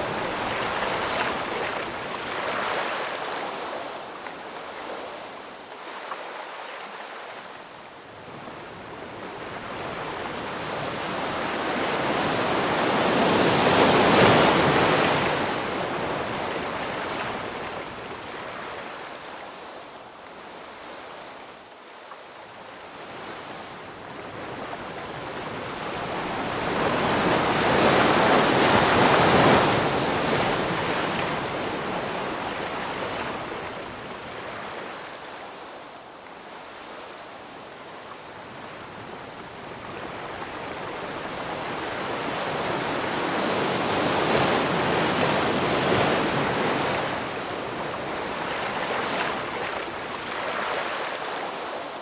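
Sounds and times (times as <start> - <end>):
ocean waves washing on shore: 0.0 - 52.0.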